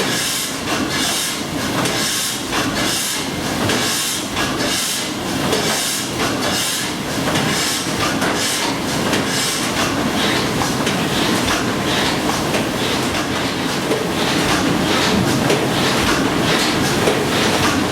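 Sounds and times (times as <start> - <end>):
steam engine mechanical clatter: 0.0 - 17.9.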